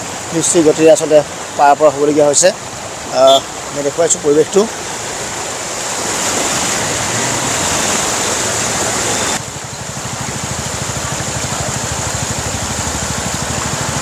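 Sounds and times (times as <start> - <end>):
floodwater rushing: 0.0 - 14.0
tyres splashing through water: 0.0 - 14.0.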